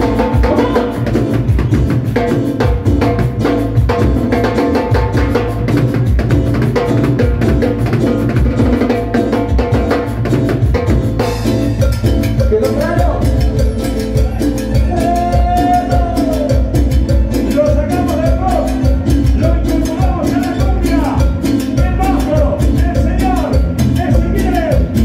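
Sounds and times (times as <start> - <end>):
latin dance band playing: 0.0 - 25.0
timbales and congas beat: 0.0 - 25.0.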